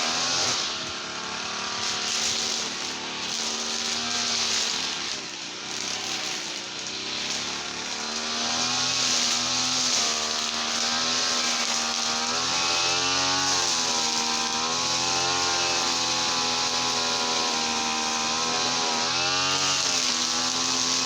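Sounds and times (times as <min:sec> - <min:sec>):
brush cutter engine running fast: 0:00.0 - 0:21.0.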